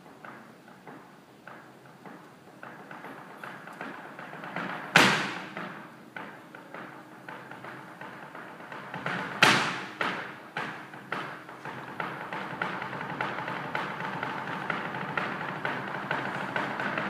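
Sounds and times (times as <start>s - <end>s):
shoes tapping on wooden stage: 0.0s - 17.0s.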